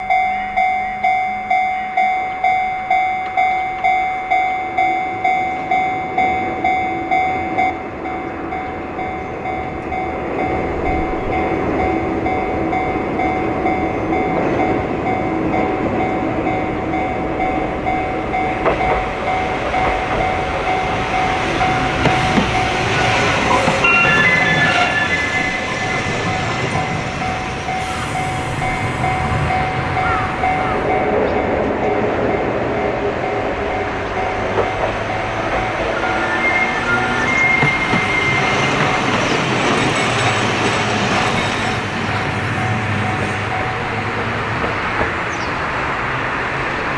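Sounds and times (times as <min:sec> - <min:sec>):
crossing warning bell clanging: 0:00.0 - 0:46.9
streetcar wheels rumbling on rail: 0:00.0 - 0:46.9.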